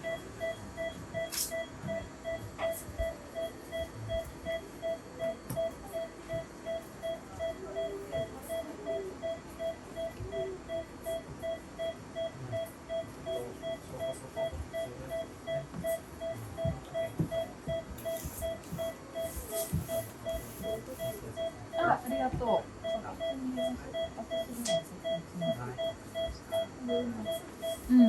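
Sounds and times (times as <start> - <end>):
patient monitor beeping: 0.0 - 28.0.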